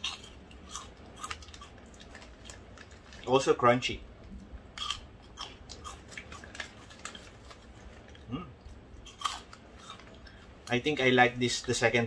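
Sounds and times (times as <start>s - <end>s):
person chewing crunchy crackers: 0.0s - 3.5s, 4.3s - 10.7s.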